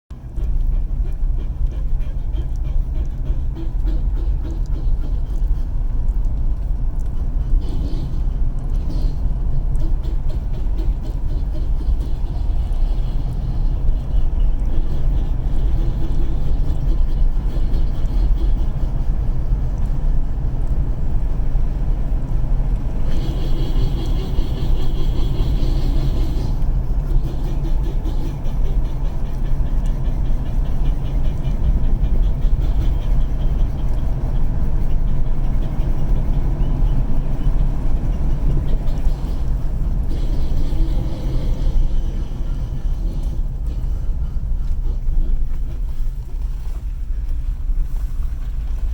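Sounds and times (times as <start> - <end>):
car road and drivetrain rumble: 0.1 - 48.9.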